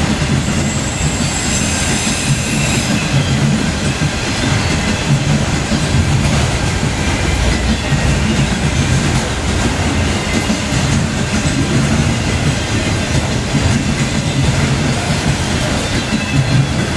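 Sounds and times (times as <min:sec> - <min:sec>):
train wheels rolling on rails: 0:00.0 - 0:16.9.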